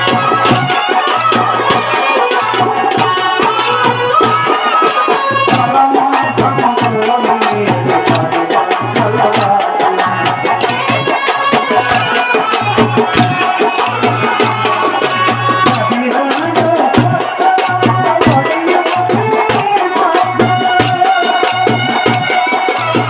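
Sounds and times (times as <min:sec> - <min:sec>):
drum beating steady rhythm: 0:00.0 - 0:23.0.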